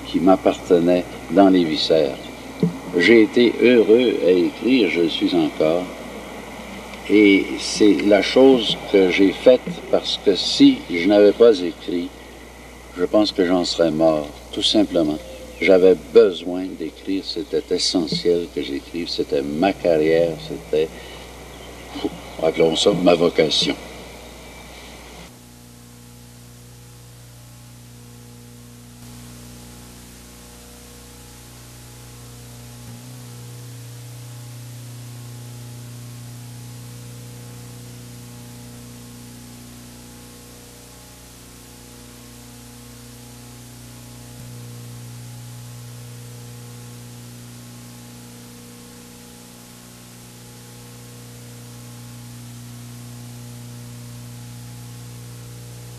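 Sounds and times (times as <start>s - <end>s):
low mains hum: 0.0s - 55.9s
tape hiss: 0.0s - 55.9s.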